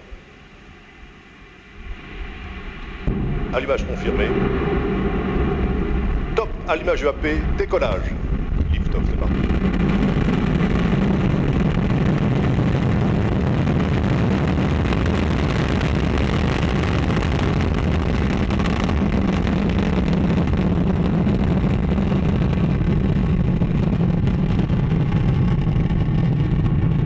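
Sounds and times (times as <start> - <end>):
rocket deep rumble: 0.0 - 27.0.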